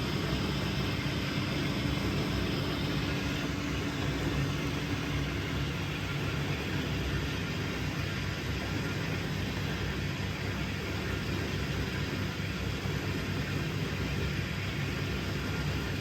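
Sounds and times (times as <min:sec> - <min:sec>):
dishwasher pump humming: 0:00.0 - 0:16.0.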